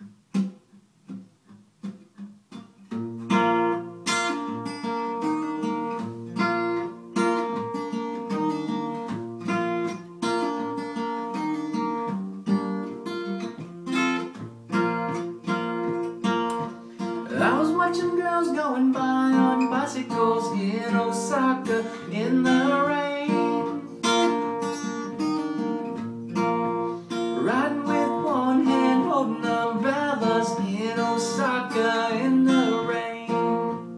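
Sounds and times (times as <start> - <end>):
acoustic guitar playing: 0.0 - 33.9
taps on guitar: 0.0 - 33.9.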